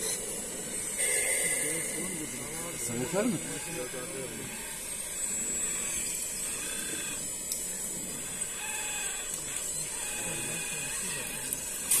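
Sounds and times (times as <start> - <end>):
electric hydraulic pump whirring: 0.0 - 12.0.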